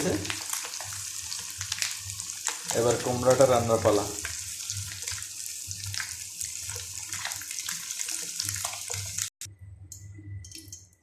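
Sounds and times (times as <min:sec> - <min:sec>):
fish sizzling in hot oil: 0:00.0 - 0:09.4.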